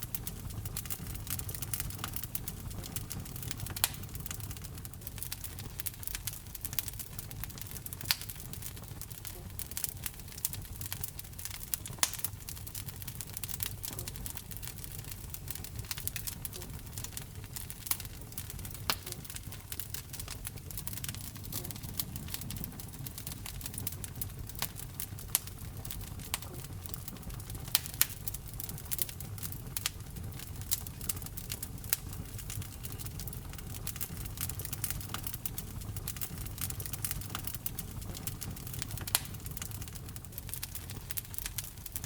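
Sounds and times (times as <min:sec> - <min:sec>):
fire crackling and popping: 0:00.0 - 0:42.0
flames rumbling in fireplace: 0:00.0 - 0:42.0.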